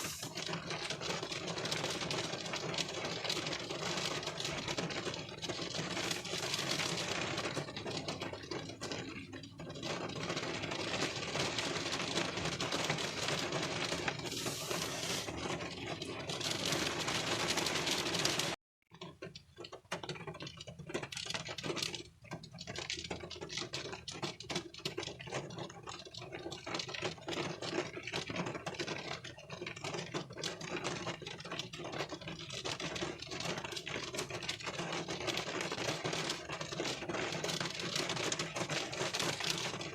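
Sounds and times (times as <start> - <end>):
rain pattering on windshield: 0.0 - 39.9.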